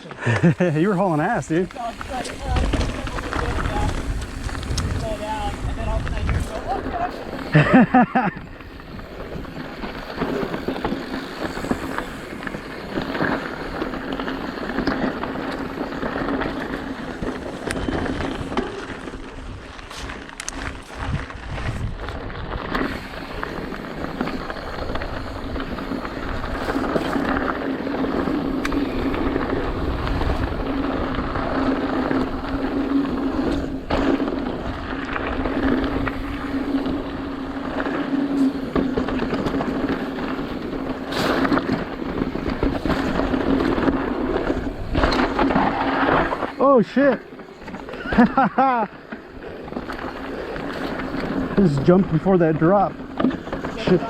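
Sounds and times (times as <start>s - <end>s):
bike knocking and rattling: 0.0s - 54.0s
bike tyres rolling on dirt: 0.0s - 54.0s.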